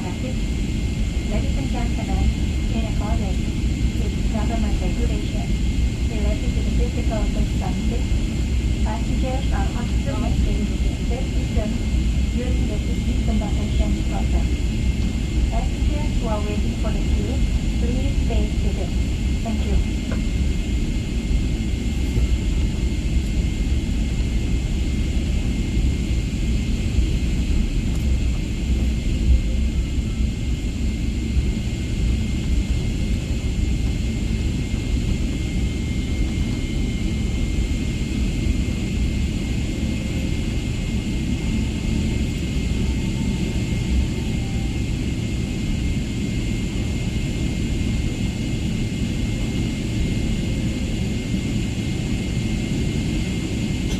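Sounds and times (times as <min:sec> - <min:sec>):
airliner cabin air system rumble: 0:00.0 - 0:53.9.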